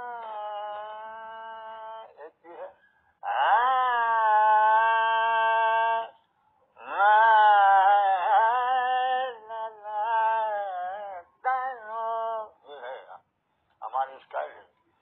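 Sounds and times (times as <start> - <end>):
man singing wordless phrases: 0.0 - 6.2, 6.8 - 13.2.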